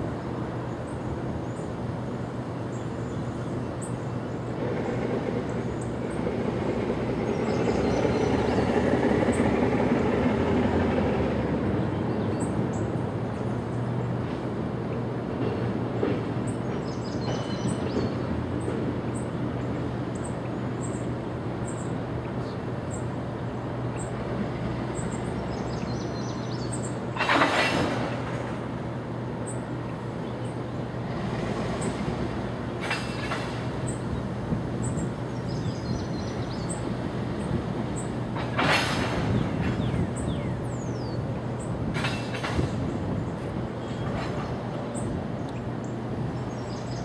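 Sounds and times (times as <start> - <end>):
diesel locomotive droning: 0.0 - 47.0.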